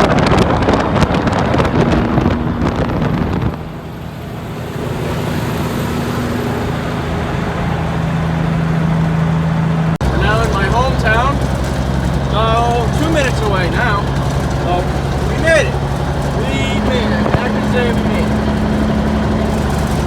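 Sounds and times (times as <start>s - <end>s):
diesel truck engine running: 0.0s - 20.0s
road and wind noise: 0.0s - 20.0s.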